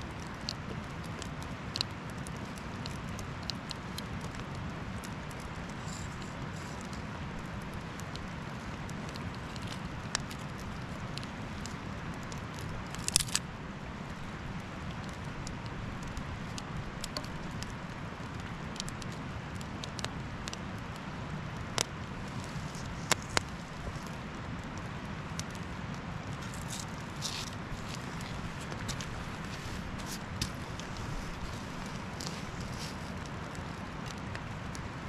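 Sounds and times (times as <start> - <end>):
campfire crackling and popping: 0.0 - 35.0
steady background hiss: 0.0 - 35.0.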